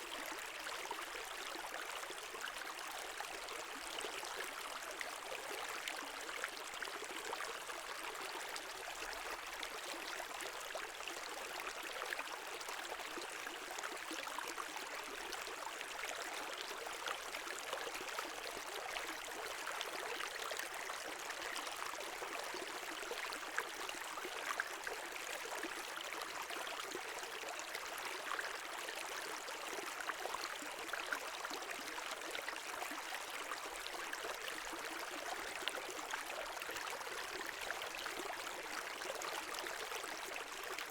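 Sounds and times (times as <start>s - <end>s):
brook water over stones: 0.0s - 40.9s.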